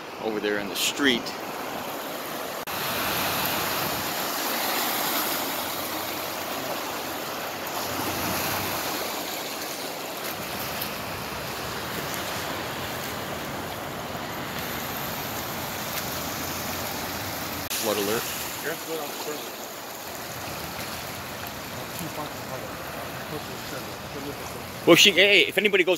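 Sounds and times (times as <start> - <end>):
vehicles splashing through floodwater: 0.0 - 25.9.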